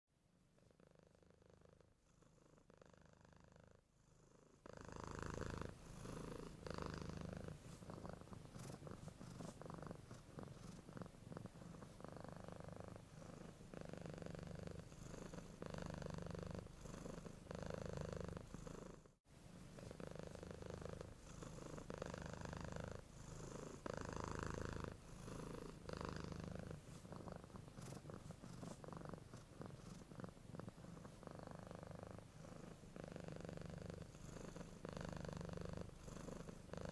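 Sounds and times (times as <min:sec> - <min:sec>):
cat purring: 0:00.4 - 0:36.9.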